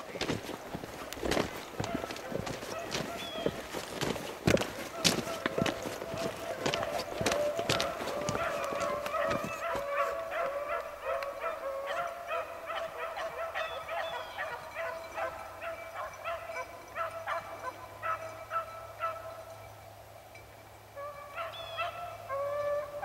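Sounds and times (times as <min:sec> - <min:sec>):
pack of dogs baying: 0:00.2 - 0:19.5, 0:21.0 - 0:23.0.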